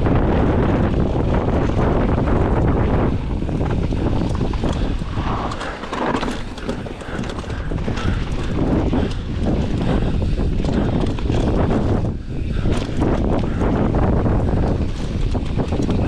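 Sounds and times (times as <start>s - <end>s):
bike rattling and knocking: 0.0s - 16.0s
tyres rumbling over dirt: 0.0s - 16.0s
wind rushing over microphone: 0.0s - 16.0s.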